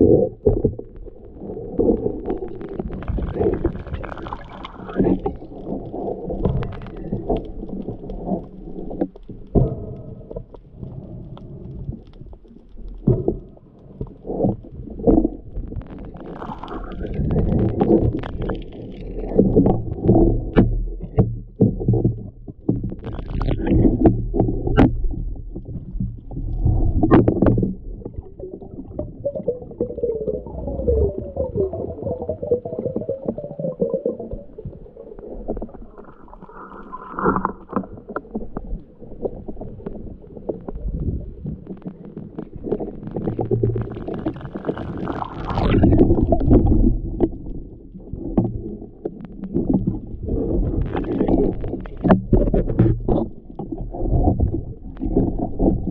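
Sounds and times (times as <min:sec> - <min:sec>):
underwater rushing water: 0:00.0 - 0:55.9.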